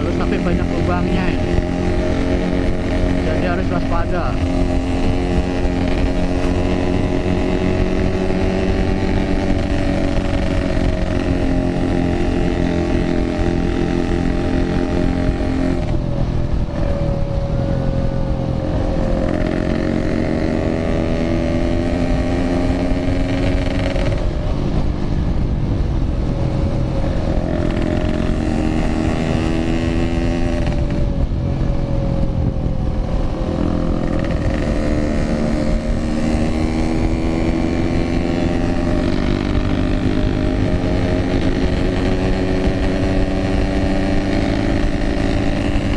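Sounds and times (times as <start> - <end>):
two-stroke motorcycle engine: 0.0 - 45.9.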